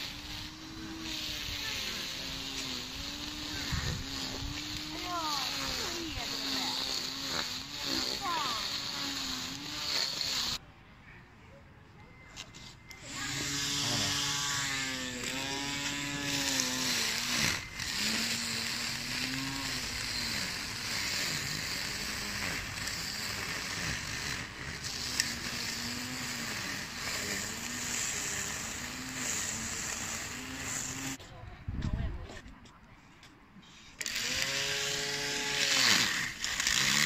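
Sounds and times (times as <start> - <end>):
grass trimmer motor whirring: 0.0 - 10.6, 12.4 - 31.2, 34.0 - 37.0.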